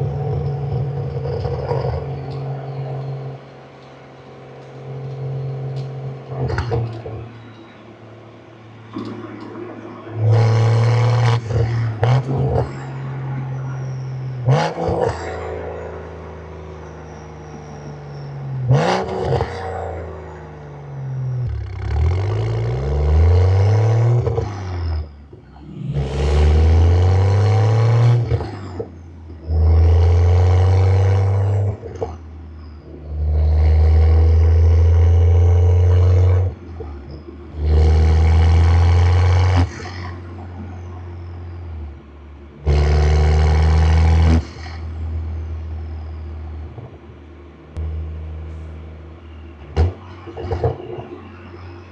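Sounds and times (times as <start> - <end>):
car engine accelerating hard: 0.0 - 51.9.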